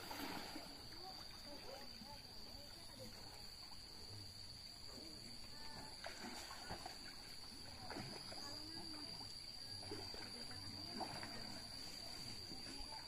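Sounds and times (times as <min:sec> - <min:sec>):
distant people talking: 0:00.3 - 0:13.0.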